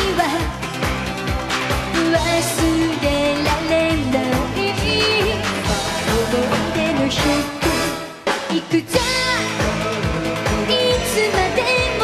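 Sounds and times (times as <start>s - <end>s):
woman singing: 0.0s - 0.7s, 1.9s - 10.0s, 10.6s - 12.0s
pop-rock band playing: 0.0s - 12.0s.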